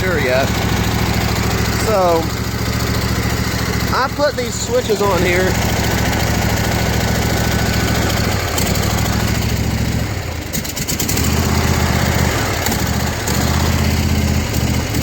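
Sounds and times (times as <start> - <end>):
riding mower engine running: 0.0 - 15.0.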